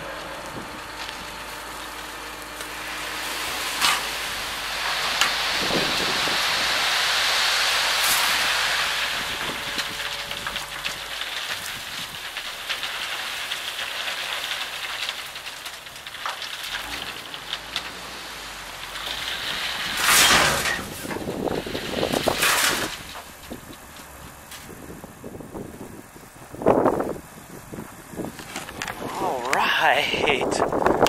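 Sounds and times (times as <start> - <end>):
gravel pouring from truck bed: 0.0 - 31.0.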